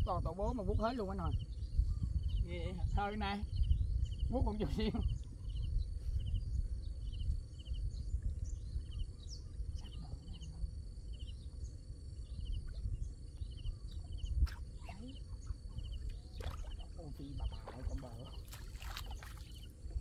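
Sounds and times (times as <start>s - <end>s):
steady low rumble: 0.0s - 20.0s
faint bird chirps: 0.4s - 20.0s.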